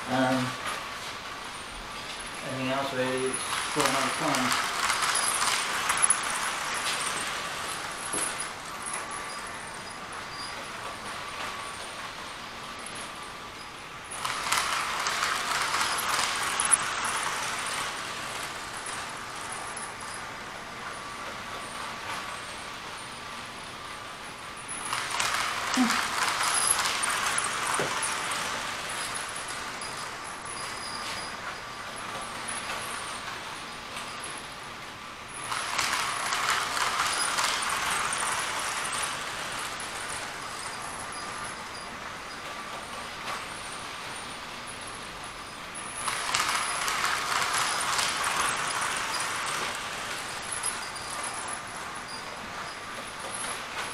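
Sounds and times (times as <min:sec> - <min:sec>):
model train wheels and motor: 0:00.0 - 0:53.9.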